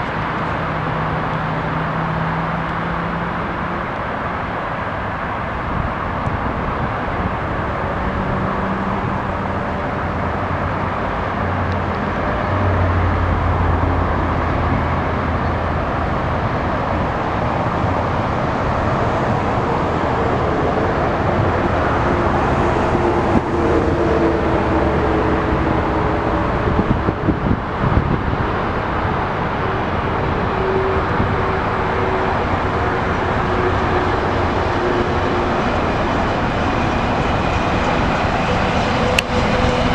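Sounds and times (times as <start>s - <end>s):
diesel locomotive engine humming: 0.0s - 39.9s.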